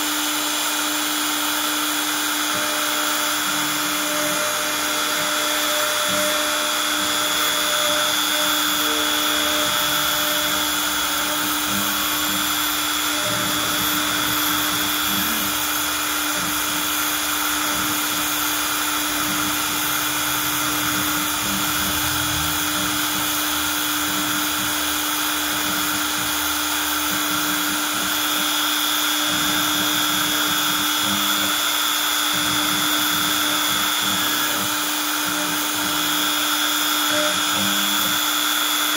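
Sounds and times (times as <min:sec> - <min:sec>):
router spindle high whine: 0:00.0 - 0:38.9.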